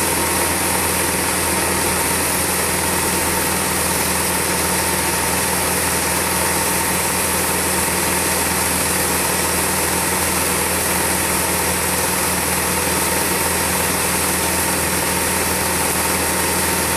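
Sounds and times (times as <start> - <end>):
film projector whirring: 0.0 - 16.9.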